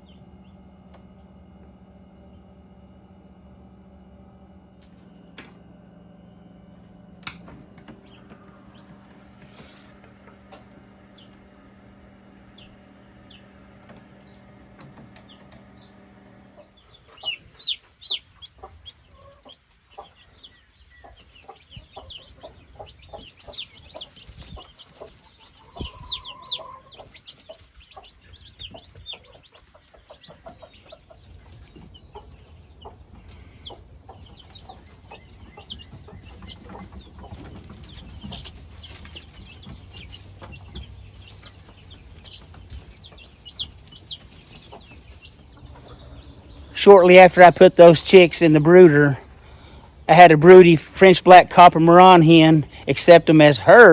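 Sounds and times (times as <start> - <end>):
chicks peeping: 0.0 - 53.9
steady low hum: 0.0 - 53.9.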